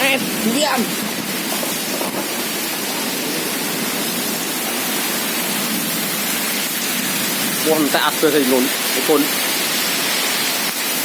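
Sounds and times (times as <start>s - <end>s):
heavy rain: 0.0s - 11.0s
strong storm wind: 0.0s - 11.0s.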